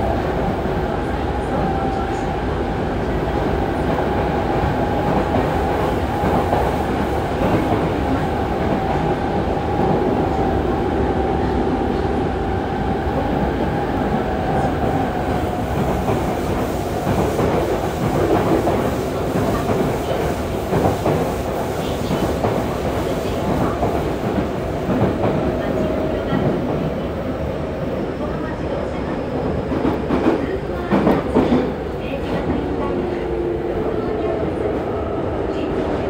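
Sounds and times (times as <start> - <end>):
train wheel on rail rumble: 0.0 - 36.0.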